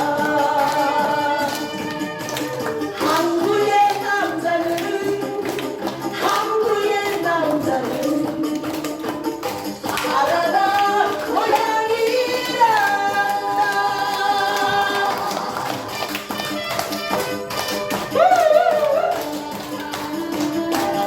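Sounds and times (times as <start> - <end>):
person singing: 0.0 - 9.1, 9.9 - 16.0, 18.2 - 21.0
percussion beat: 0.0 - 21.0.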